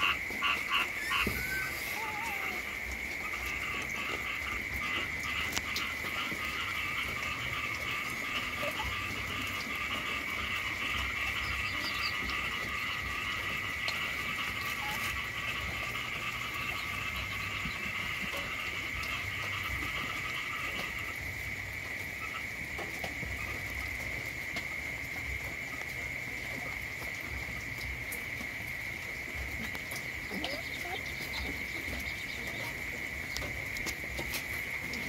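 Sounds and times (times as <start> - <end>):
frogs calling in chorus: 0.0 - 35.0.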